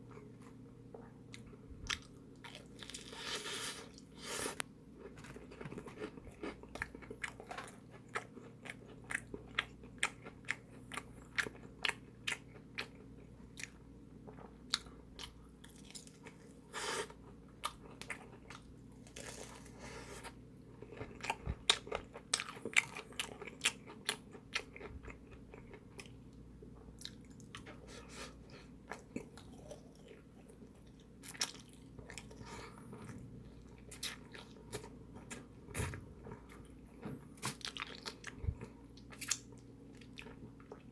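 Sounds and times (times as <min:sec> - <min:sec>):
faint low hum: 0:00.0 - 0:40.9
chewing crispy fried food: 0:00.2 - 0:40.9.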